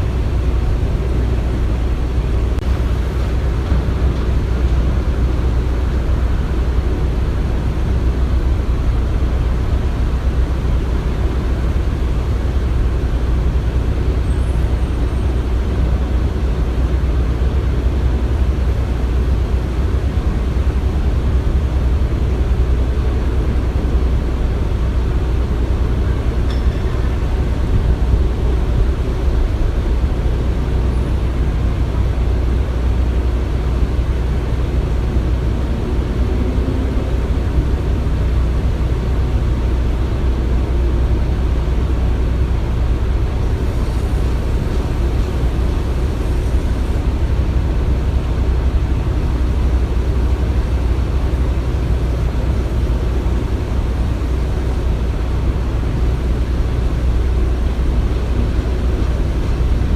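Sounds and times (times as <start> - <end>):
heavy machinery engine rumble: 0.0 - 59.9.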